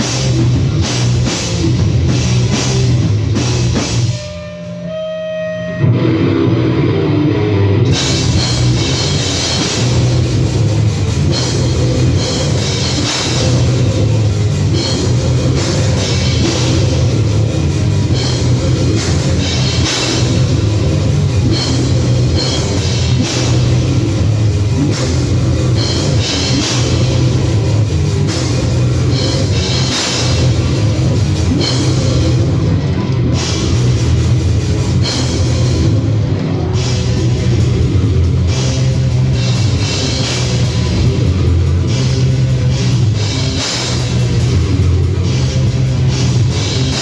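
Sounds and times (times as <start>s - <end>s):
heavy metal band playing: 0.0s - 47.0s.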